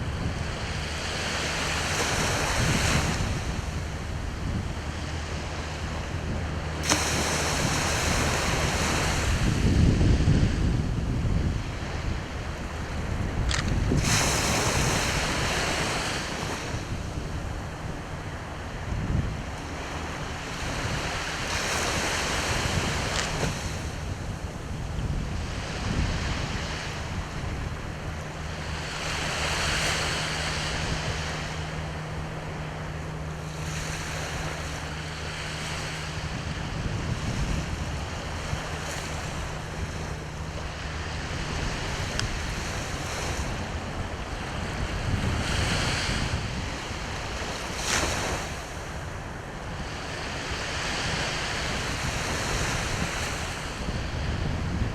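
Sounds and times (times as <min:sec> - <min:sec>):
sea surf washing onto shore: 0:00.0 - 0:54.9
wind buffeting microphone: 0:00.0 - 0:54.9.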